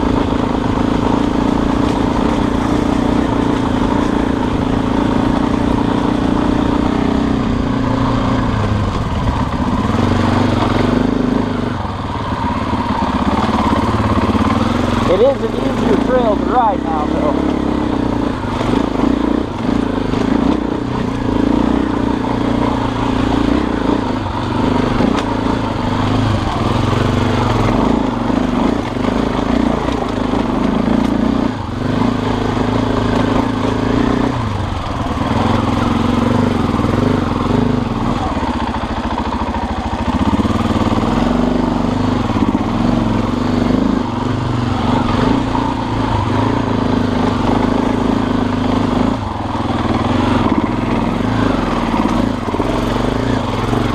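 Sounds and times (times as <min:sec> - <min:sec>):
dirt bike engine: 0:00.0 - 0:53.9.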